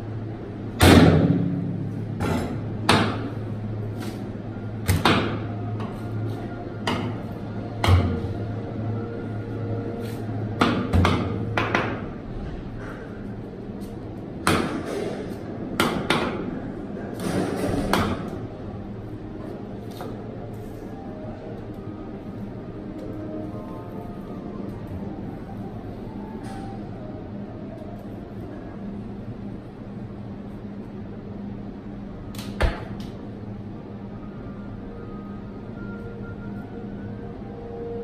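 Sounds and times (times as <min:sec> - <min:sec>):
cooling fan hum: 0:00.0 - 0:38.0.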